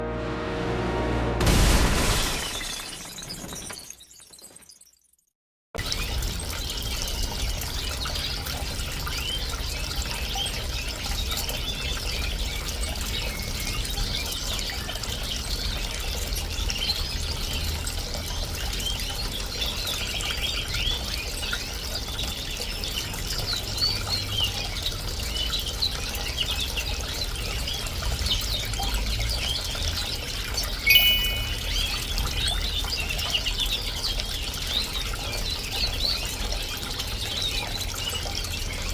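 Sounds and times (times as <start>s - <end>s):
fountain trickling and splashing: 5.8s - 38.9s.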